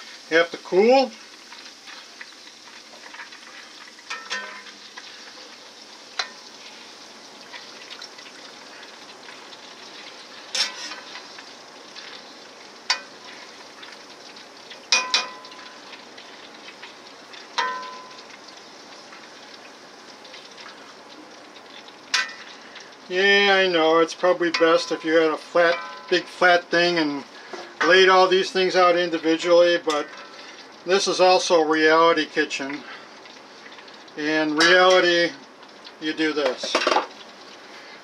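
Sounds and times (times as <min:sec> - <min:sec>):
fries sizzling in hot oil: 0:00.0 - 0:38.0.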